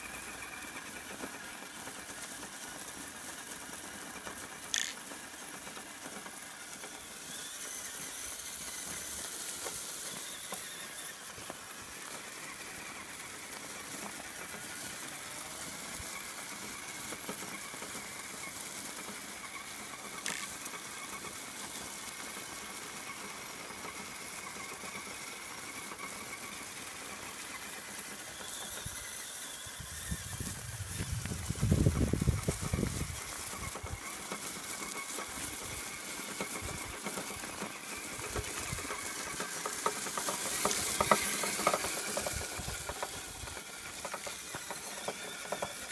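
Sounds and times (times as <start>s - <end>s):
rc car motor whining: 0.0s - 45.9s
stones clicking under tyres: 0.0s - 45.9s.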